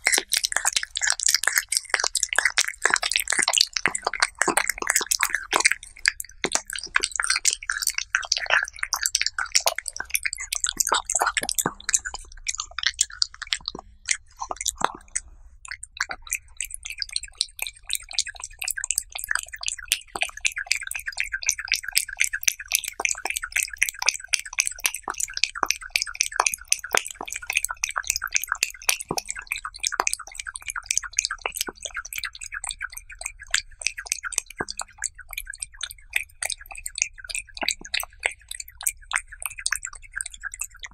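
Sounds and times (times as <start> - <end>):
cat chewing wet food: 0.0 - 40.9.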